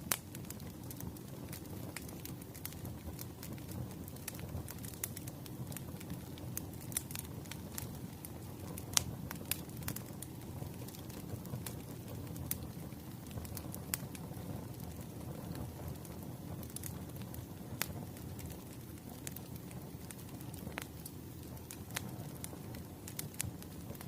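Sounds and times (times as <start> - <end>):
fire rumbling: 0.0 - 24.0
firewood crackling and popping: 0.0 - 24.0.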